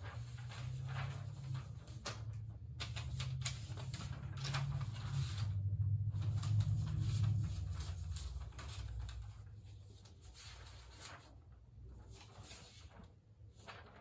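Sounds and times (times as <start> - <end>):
steady low hum: 0.0 - 13.0
paper rustling and crackling: 0.0 - 14.0.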